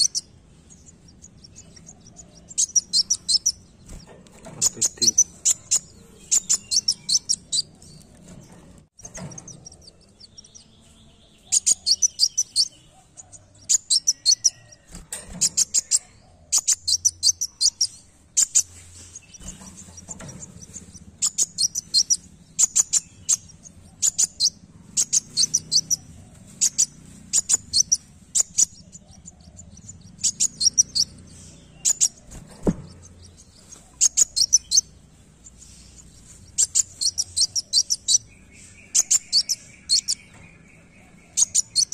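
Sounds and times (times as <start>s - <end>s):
bird twittering: 0.0s - 8.4s, 9.0s - 41.9s.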